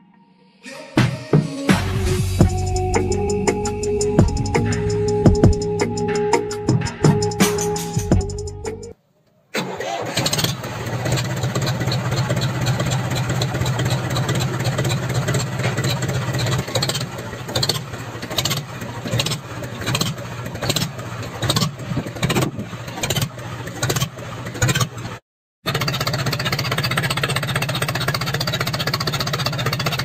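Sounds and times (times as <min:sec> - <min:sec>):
tractor engine running: 0:02.0 - 0:08.9, 0:09.6 - 0:30.0.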